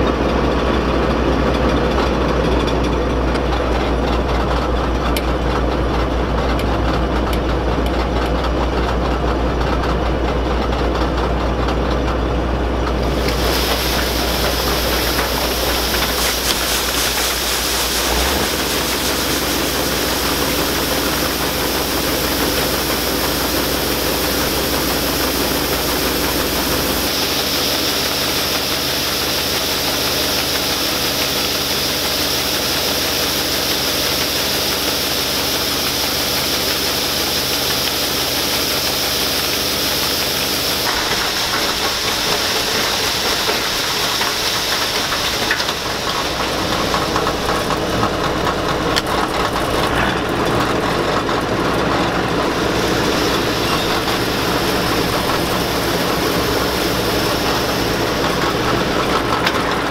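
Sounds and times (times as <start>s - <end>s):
auger pouring soybeans into wagon: 0.0s - 59.9s
combine harvester running: 0.0s - 59.9s.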